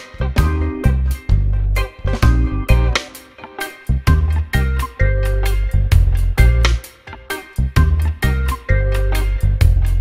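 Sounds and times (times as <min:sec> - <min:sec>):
background music with bass: 0:00.0 - 0:10.0.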